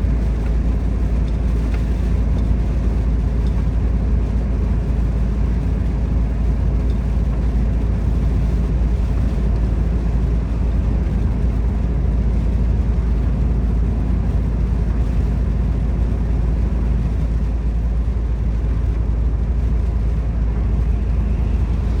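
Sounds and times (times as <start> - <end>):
diesel truck engine rumbling: 0.0 - 22.0
road noise: 0.0 - 22.0.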